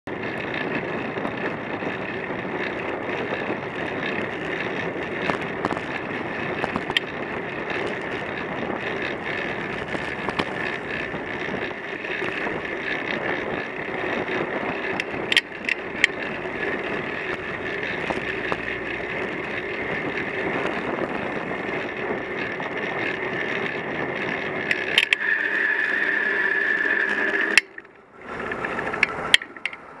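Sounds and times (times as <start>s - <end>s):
wind noise: 0.1s - 25.9s
bicycle tyre noise: 0.1s - 30.0s
sharp clicks and rattles: 0.1s - 30.0s
steady high whine: 0.8s - 30.0s.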